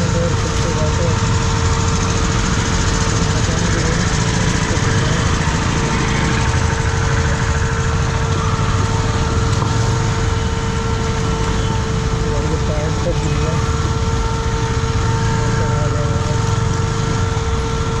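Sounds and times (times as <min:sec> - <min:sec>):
motorcycle engine running: 0:00.0 - 0:18.0
steady rush of noise: 0:00.0 - 0:18.0.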